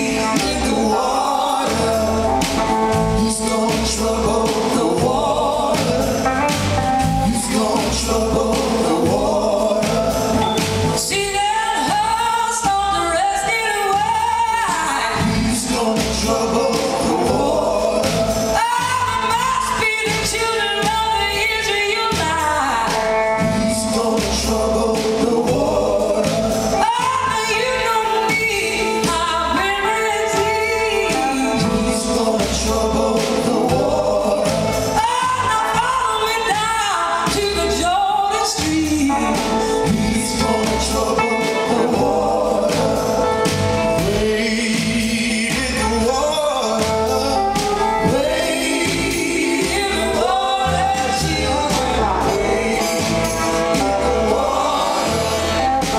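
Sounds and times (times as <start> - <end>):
electric guitars: 0.0 - 36.4, 37.0 - 55.9
backing voices singing: 0.0 - 55.9
drums: 0.0 - 55.9
woman singing lead: 0.0 - 55.9.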